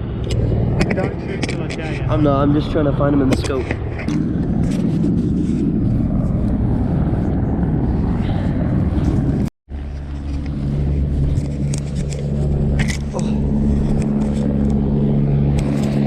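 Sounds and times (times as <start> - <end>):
loud low rumbling: 0.0 - 16.0
steady low drone: 0.0 - 16.0.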